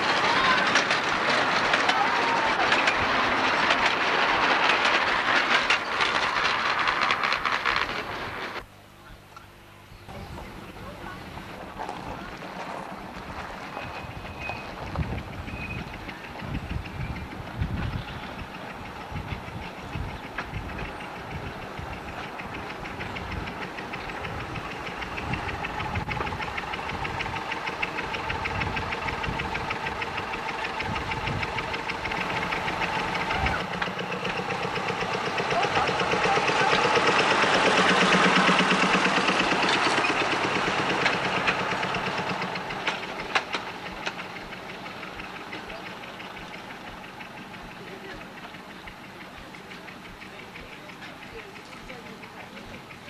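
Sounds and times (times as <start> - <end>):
locomotive engine knocking beat: 0.0 - 8.2, 10.2 - 53.0
wheel clicks over rail joints: 0.0 - 8.7, 10.1 - 53.0
railway carriages clattering past: 0.0 - 53.0.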